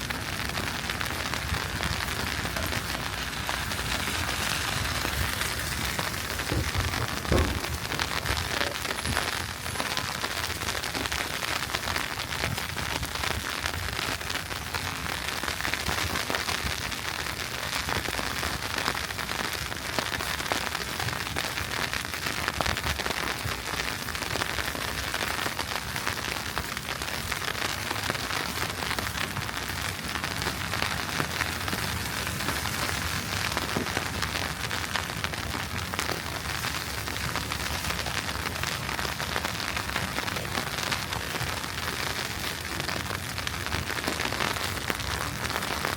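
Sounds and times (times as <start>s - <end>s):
wet snow falling crackle: 0.0s - 45.9s.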